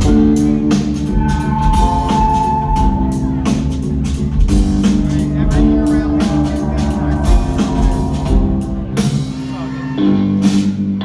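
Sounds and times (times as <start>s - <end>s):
drum kit beat: 0.0s - 11.0s
live band playing instrumental: 0.0s - 11.0s.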